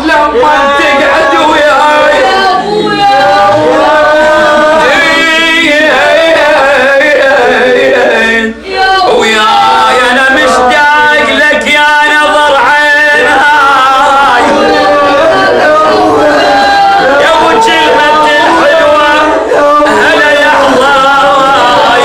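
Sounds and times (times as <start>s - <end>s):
man chanting a lament: 0.0s - 22.0s.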